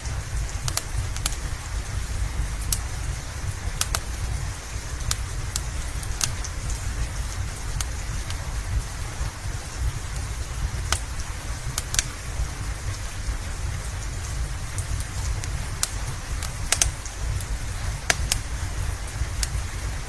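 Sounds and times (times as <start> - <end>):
low rumble: 0.0 - 20.0
rain falling: 0.0 - 20.0
wood fire crackling: 0.0 - 20.0.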